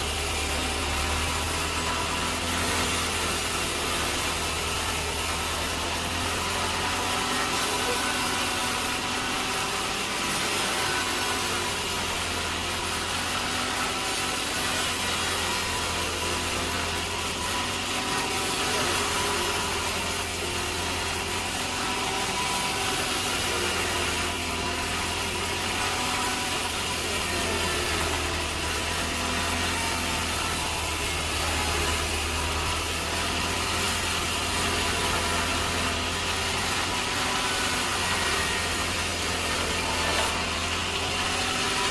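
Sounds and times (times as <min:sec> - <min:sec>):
saw cutting through timber: 0:00.0 - 0:41.9.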